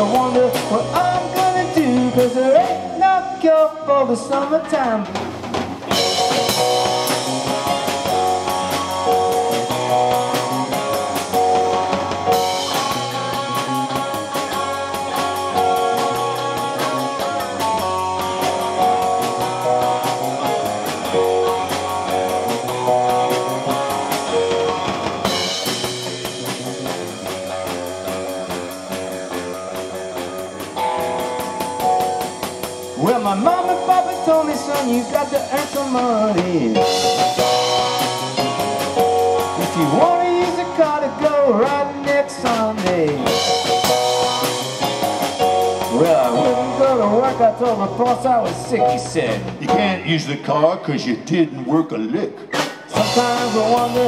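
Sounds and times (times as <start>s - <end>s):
drum kit steady beat: 0.0s - 50.2s, 52.6s - 54.0s
live rock band playing: 0.0s - 54.0s.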